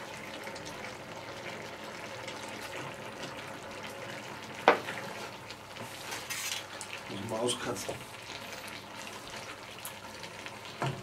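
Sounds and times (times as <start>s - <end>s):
sauce sizzling and simmering: 0.0s - 11.0s.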